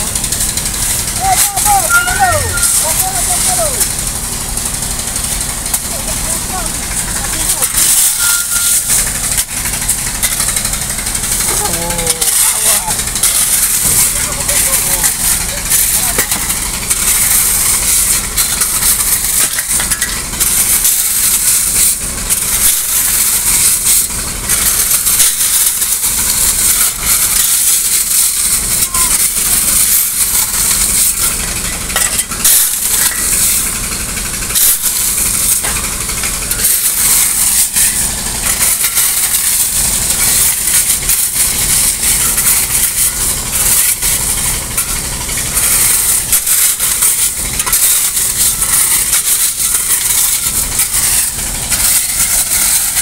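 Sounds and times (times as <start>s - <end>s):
engine humming: 0.0s - 53.0s
shovels scraping pebbles: 0.2s - 53.0s.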